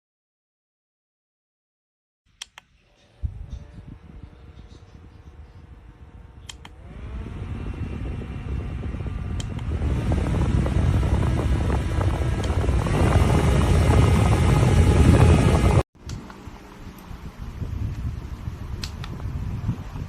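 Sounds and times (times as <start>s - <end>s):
desk fan whirring: 2.9s - 20.0s.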